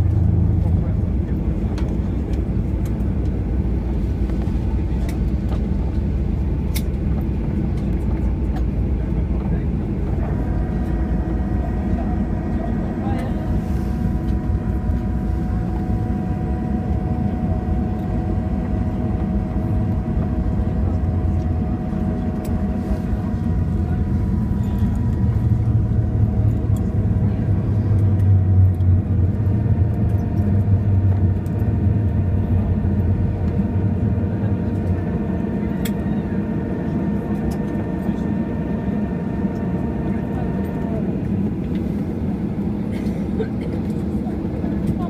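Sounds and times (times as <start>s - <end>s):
airliner cabin engine rumble: 0.0s - 45.0s
steady whining tones: 0.0s - 45.0s.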